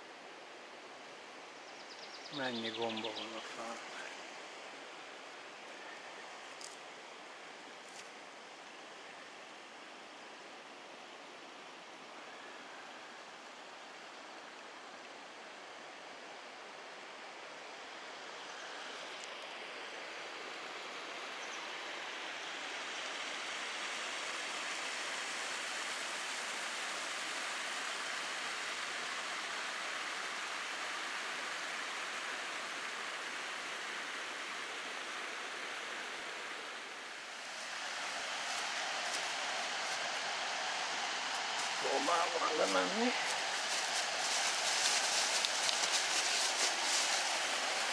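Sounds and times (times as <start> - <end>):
stream rushing over rocks: 3.5 - 47.9.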